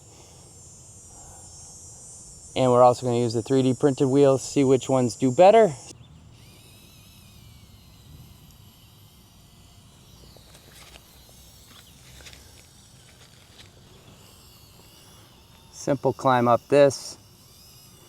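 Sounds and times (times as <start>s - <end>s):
faint insect buzzing: 0.0s - 18.0s.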